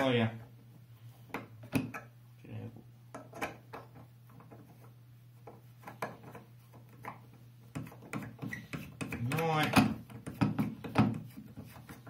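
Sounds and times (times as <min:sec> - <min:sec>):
faint steady low hum: 0:00.0 - 0:12.0.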